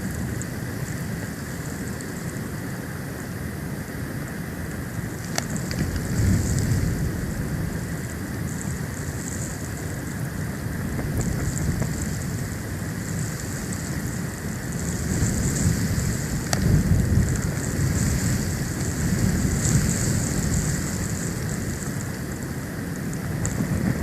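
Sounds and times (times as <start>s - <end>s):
storm wind buffeting microphone: 4.5s - 24.0s.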